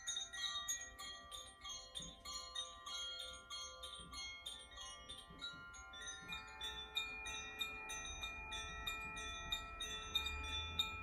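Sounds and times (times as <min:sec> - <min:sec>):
wind chime ringing: 0:00.0 - 0:11.0.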